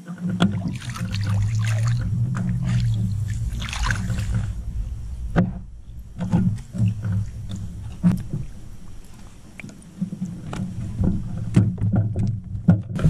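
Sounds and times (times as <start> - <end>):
knocks and bumps on a boat: 0.0 - 13.0
low steady hum: 0.0 - 13.0.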